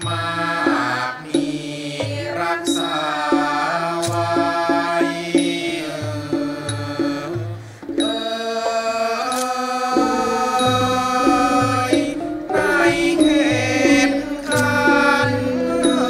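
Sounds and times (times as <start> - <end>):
instrumental accompaniment with bass: 0.0 - 16.0
person singing long held notes: 0.0 - 16.0.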